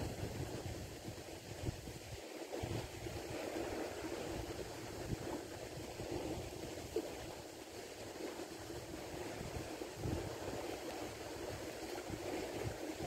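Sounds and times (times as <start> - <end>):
sea waves on a beach: 0.0 - 13.0
wind rumbling in microphone: 0.0 - 13.0.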